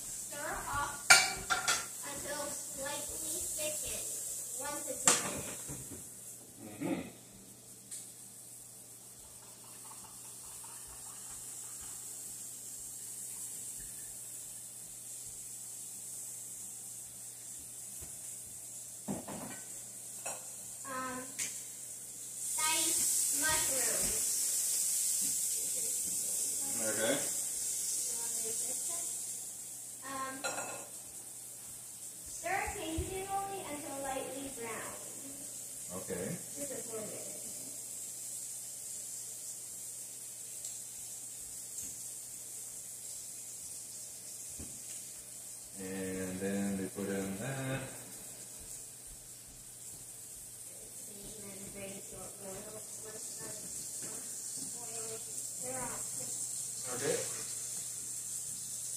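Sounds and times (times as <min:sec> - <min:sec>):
food sizzling in a pan: 0:00.0 - 0:58.9
steady high hiss: 0:00.0 - 0:58.9.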